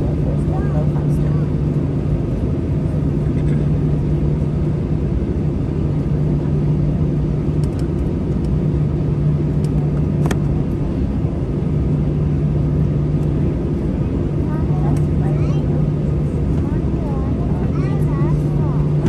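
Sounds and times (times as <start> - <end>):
aircraft cabin hum: 0.0 - 19.0.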